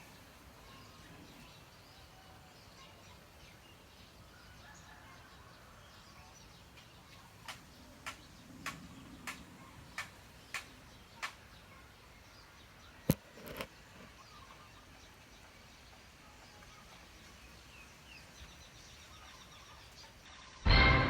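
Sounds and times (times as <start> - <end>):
faint bird chirps: 0.0 - 20.7.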